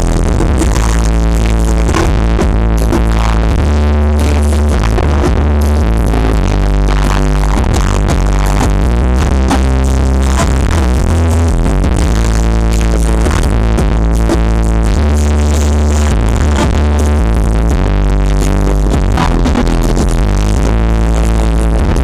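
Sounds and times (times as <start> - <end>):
electronic dance music with heavy bass: 0.0 - 22.0.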